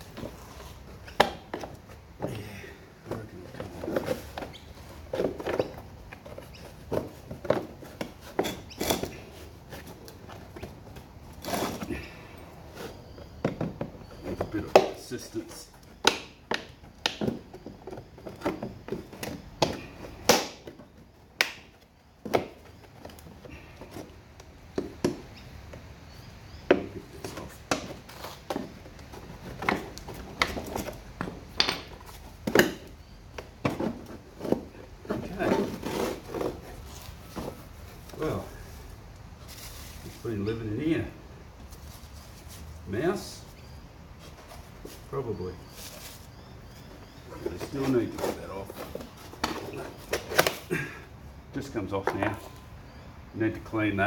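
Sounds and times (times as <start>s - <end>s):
hand tools knocking and scraping: 0.0s - 38.4s, 46.8s - 51.0s, 51.6s - 52.7s.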